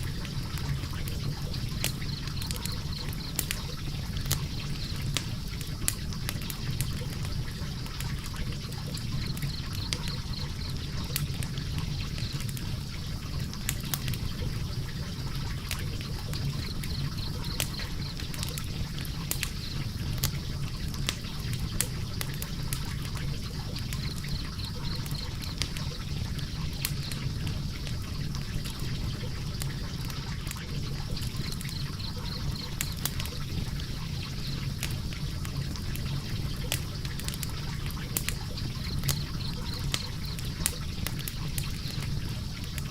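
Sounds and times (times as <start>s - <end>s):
burning wood crackling and popping: 0.0s - 42.9s
flames rumbling: 0.0s - 42.9s.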